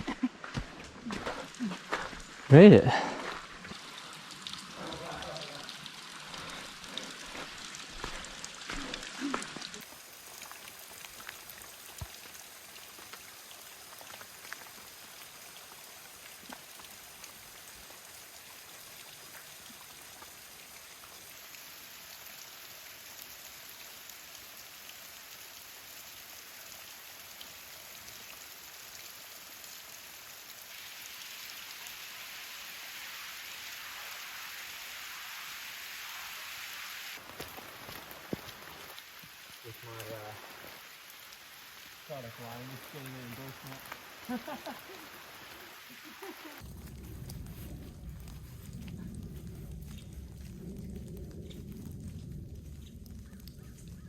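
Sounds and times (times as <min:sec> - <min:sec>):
water falling and splashing: 0:00.0 - 0:54.0.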